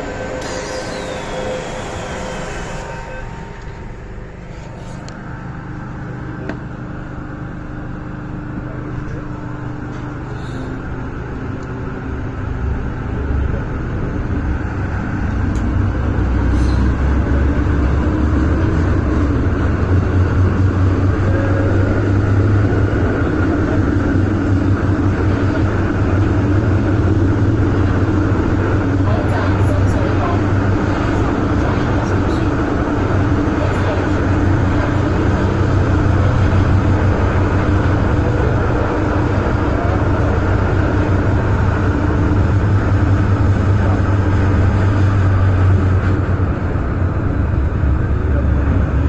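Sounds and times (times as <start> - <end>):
train motors and wheels rumbling: 0.0 - 49.0.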